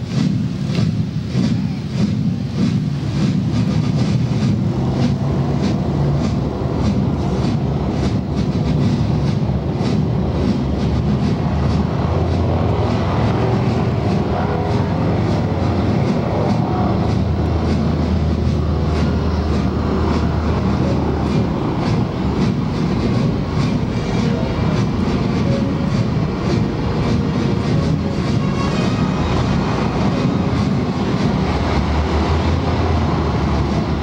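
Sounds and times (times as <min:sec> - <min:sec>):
vehicle engines rumbling: 0:00.0 - 0:34.0.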